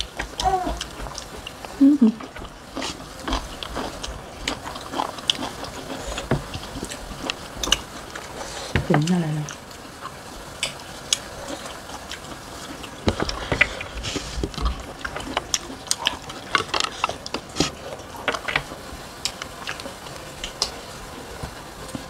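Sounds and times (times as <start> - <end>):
people chewing with wet smacks: 0.0 - 22.0.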